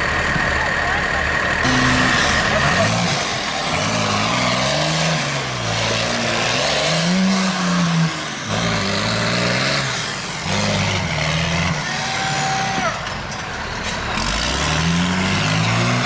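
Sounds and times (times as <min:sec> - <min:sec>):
engine revving hard: 0:01.2 - 0:13.1, 0:14.1 - 0:16.0.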